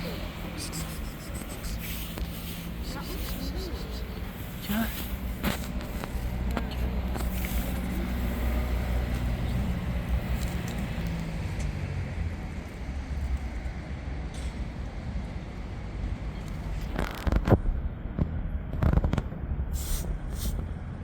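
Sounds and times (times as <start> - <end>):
street background noise: 0.0 - 21.0
vehicle engine running: 0.0 - 21.0.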